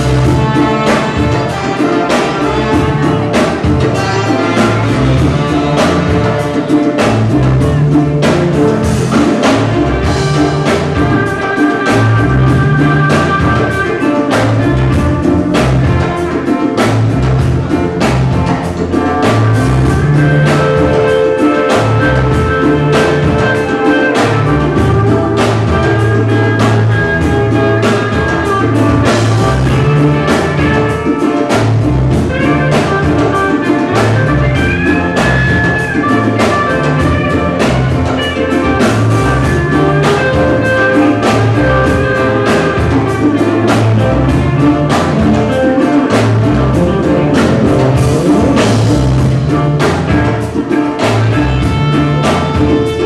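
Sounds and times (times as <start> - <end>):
drum kit steady beat: 0.0 - 53.0
electric guitar: 0.0 - 53.0
held melody notes: 0.0 - 53.0
walking bass line: 0.0 - 53.0.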